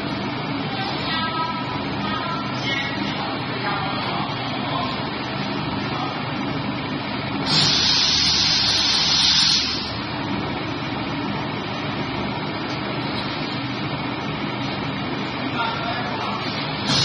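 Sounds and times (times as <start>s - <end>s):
crusher machine running: 0.0s - 17.0s.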